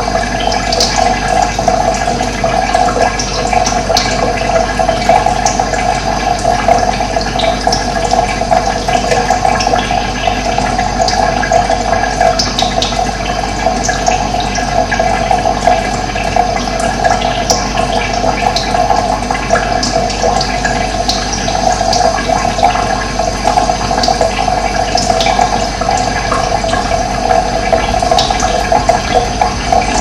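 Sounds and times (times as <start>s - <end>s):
running water splashing: 0.0s - 30.0s.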